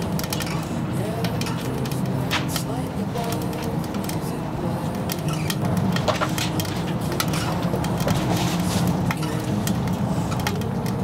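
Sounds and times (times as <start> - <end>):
firewood crackling and popping: 0.0 - 11.0.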